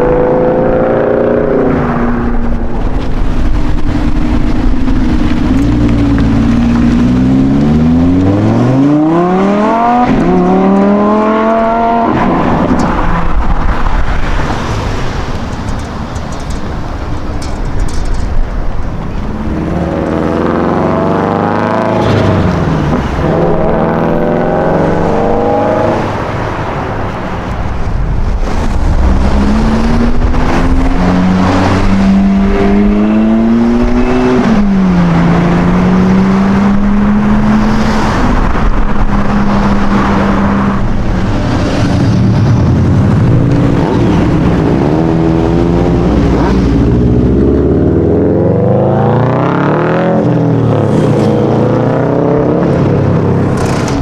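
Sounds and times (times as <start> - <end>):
car engines accelerating hard: 0.0 - 54.0.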